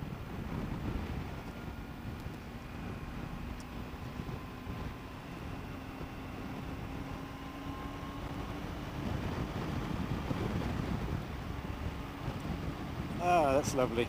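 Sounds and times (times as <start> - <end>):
motorcycle engine cruising: 0.0 - 14.0
wind buffeting microphone: 0.0 - 14.0.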